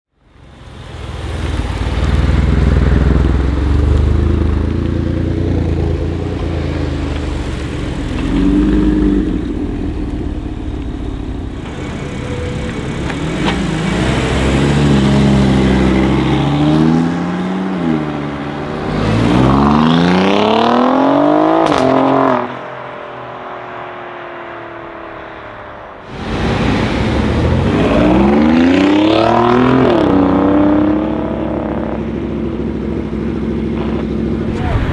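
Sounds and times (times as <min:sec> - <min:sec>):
sports car engines accelerating: 0:00.2 - 0:34.9.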